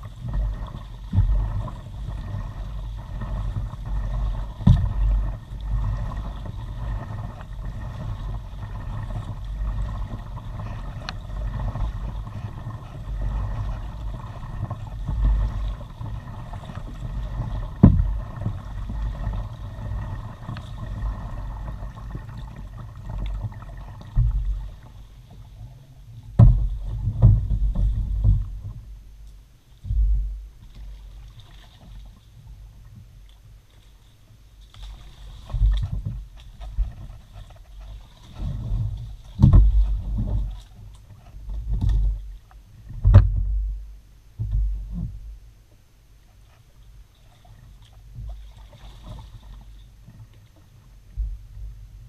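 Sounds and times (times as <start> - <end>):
paddle knocks and thumps: 0.0 - 25.6, 26.3 - 29.0, 29.8 - 32.2, 34.8 - 45.4, 47.4 - 51.8
rumble of water on kayak hull: 0.0 - 52.0.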